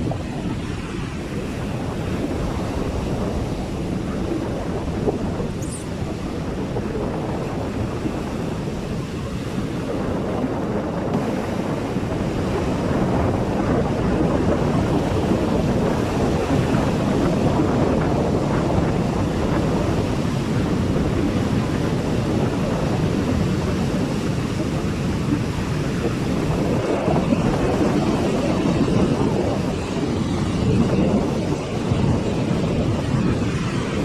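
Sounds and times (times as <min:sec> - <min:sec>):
sea surf washing onto beach: 0:00.0 - 0:34.0
wind buffeting microphone: 0:00.0 - 0:34.0.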